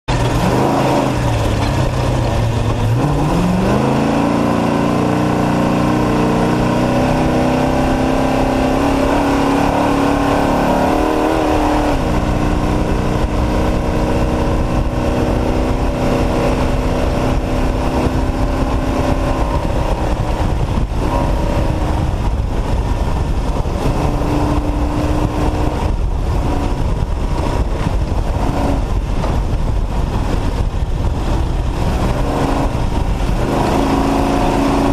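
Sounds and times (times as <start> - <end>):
truck engine revving: 0.1 - 34.9
heavy low noise: 5.9 - 34.9.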